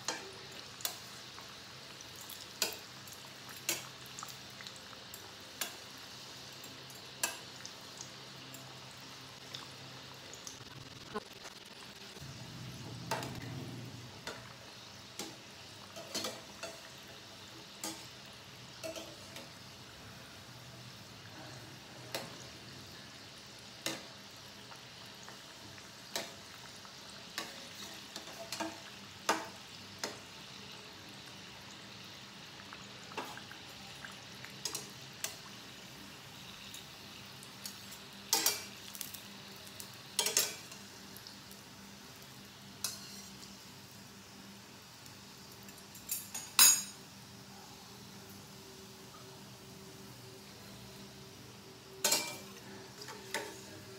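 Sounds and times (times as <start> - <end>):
deep-frying sizzle in oil: 0.0 - 53.9.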